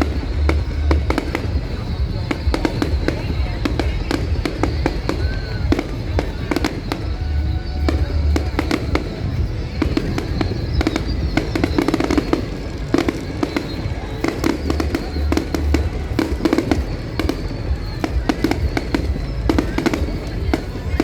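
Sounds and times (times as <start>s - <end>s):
deep fireworks booms: 0.0s - 21.0s
fireworks bangs and crackling pops: 0.0s - 21.0s.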